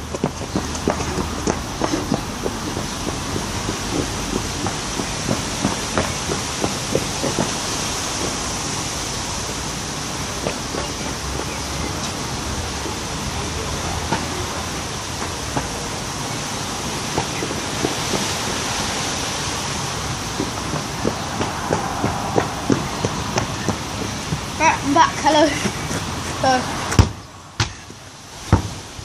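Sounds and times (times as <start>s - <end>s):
rushing outdoor noise: 0.0s - 29.0s.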